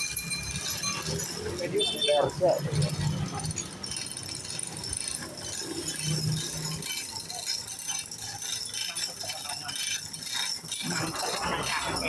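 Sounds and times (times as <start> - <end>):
metal tools clinking: 0.0 - 12.0.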